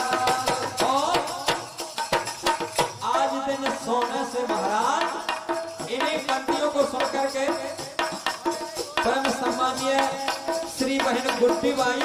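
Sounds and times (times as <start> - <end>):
hand drums beat: 0.0 - 12.0
jingling percussion: 0.0 - 12.0
man singing through loudspeakers: 0.0 - 12.0.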